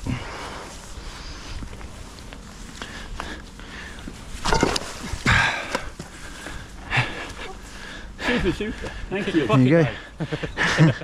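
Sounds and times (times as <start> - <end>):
people scuffling and handling gear: 0.0 - 9.8.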